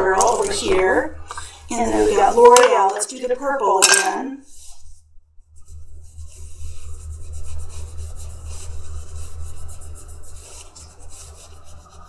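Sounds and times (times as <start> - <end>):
scratchy rubbing on waxy surface: 0.0 - 1.0, 1.7 - 3.8, 4.4 - 5.0, 5.6 - 12.0
steady low hum: 0.0 - 12.0.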